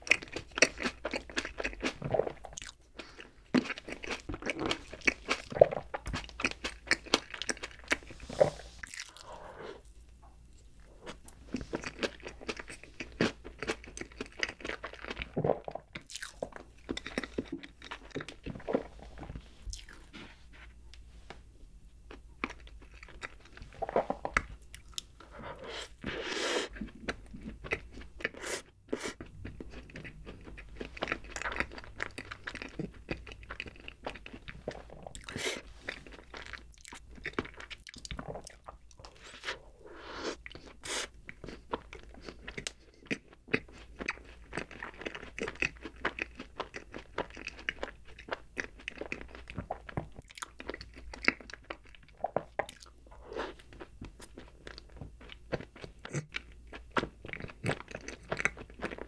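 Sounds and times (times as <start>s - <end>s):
person chewing crunchy food: 0.0s - 10.0s, 10.8s - 20.8s, 22.0s - 59.0s.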